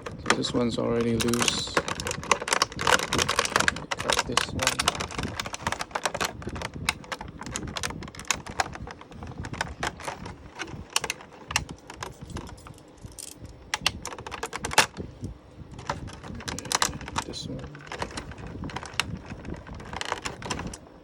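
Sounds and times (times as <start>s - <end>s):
plastic packaging crackling: 0.0s - 21.0s.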